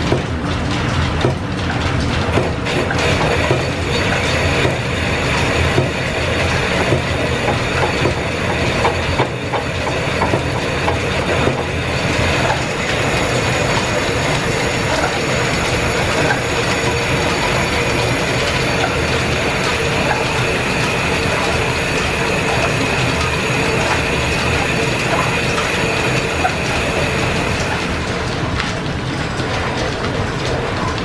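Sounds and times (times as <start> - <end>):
machine tools rumbling: 0.0 - 31.0.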